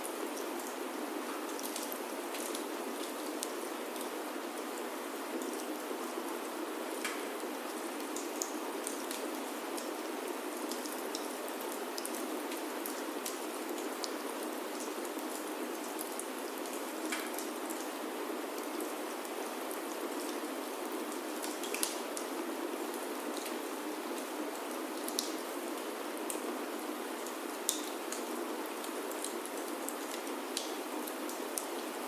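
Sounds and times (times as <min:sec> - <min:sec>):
rain on a wooden roof: 0:00.0 - 0:32.0.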